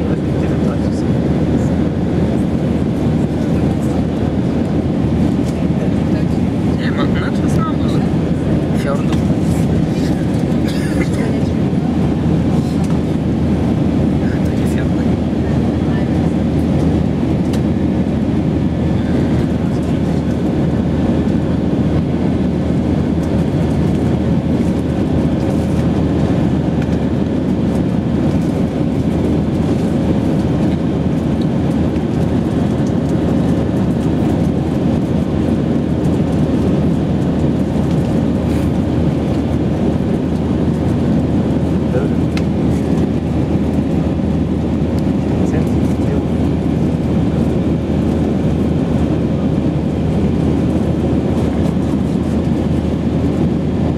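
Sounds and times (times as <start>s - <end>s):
jet cabin engine and airflow noise: 0.0s - 53.9s.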